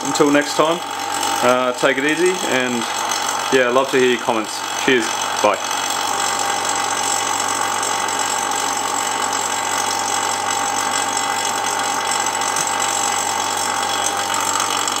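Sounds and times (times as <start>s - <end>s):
vacuum pump running with whine: 0.0s - 15.0s.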